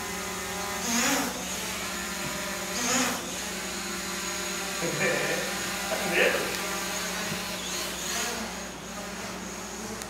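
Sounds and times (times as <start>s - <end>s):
drone buzzing: 0.0s - 10.0s.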